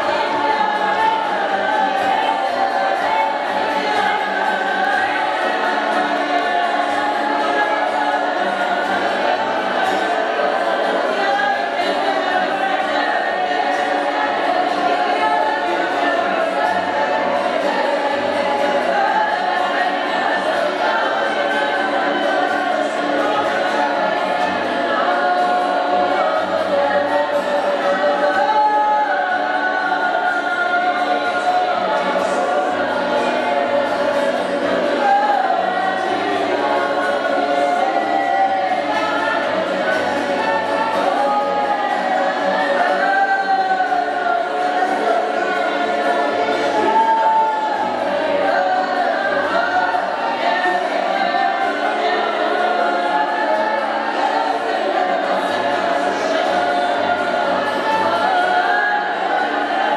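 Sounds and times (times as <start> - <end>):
acoustic guitar: 0.0 - 59.9
congregation singing: 0.0 - 59.9.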